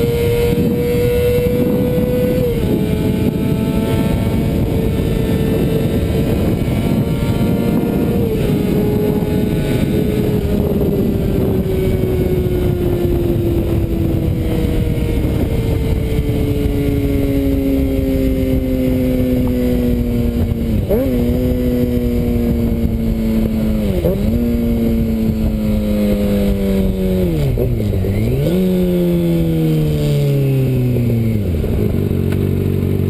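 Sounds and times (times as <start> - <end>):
motorcycle engine revving hard: 0.0 - 33.0
rushing wind noise: 0.0 - 33.0.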